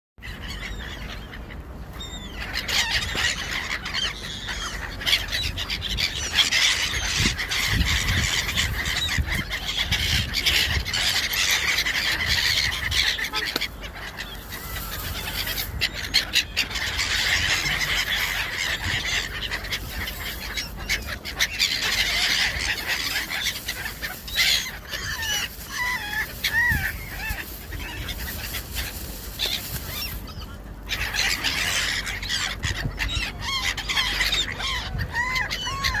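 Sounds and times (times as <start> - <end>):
gulls calling: 0.2 - 36.0.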